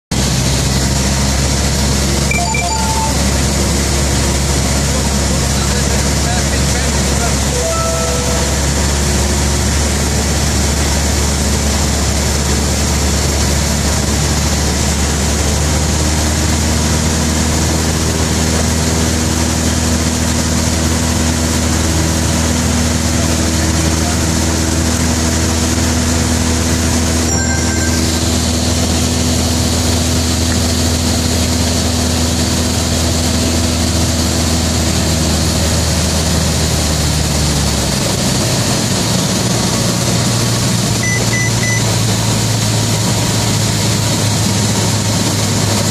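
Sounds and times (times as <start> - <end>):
propeller plane engine drone: 0.1 - 45.9.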